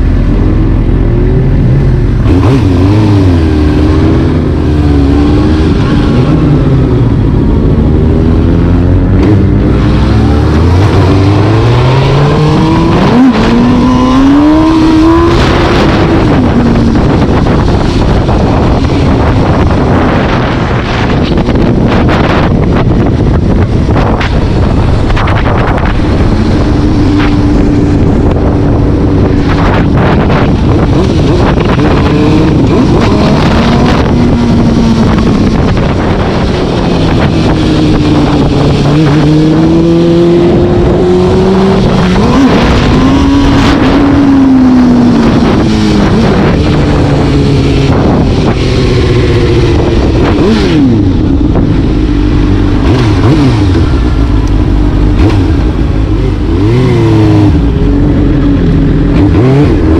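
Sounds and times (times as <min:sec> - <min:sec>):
road and wind noise: 0:00.0 - 0:59.9
vehicle engine accelerating: 0:00.0 - 0:59.9.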